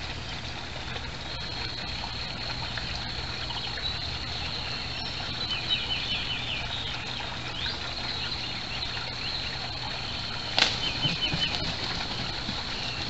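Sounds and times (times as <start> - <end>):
small birds chirping and trilling: 1.2 - 13.0.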